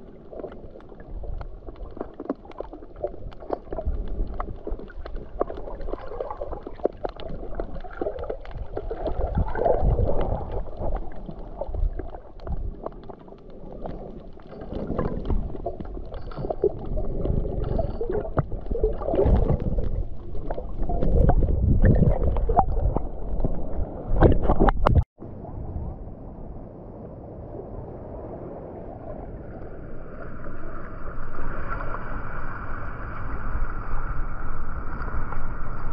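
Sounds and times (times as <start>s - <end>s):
underwater crackles and clicks: 0.0s - 25.5s, 29.0s - 35.9s
muffled underwater water movement: 0.0s - 35.9s.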